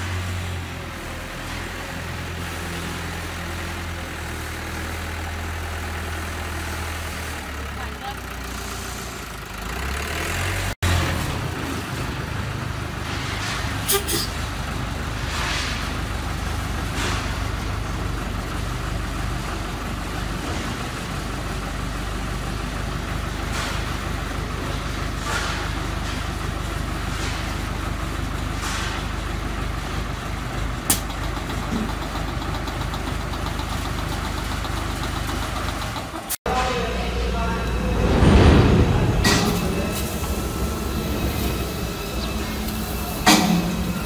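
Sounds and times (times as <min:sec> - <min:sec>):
mixer engine running: 0:00.0 - 0:44.0.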